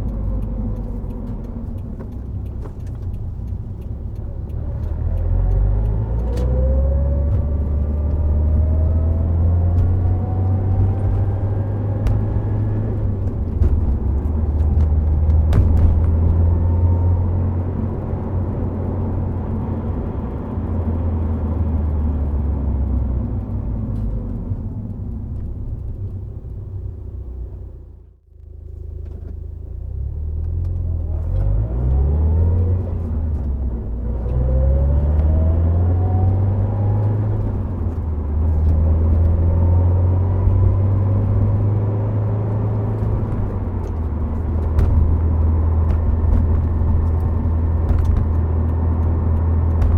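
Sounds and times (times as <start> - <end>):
car engine deep low rumble: 0.0 - 49.9.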